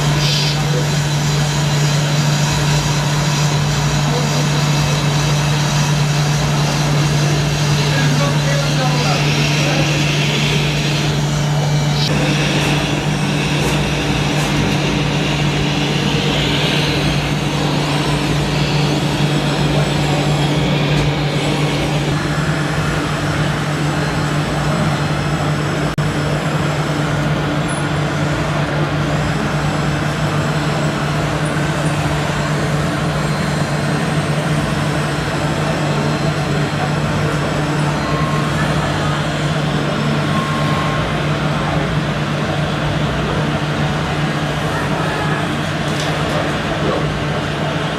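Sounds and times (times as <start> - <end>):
motor running with low hum: 0.0 - 47.9.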